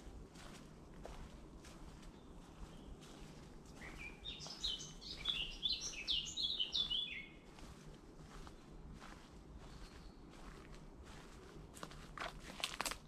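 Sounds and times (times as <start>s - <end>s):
songbird singing: 0.0s - 12.1s.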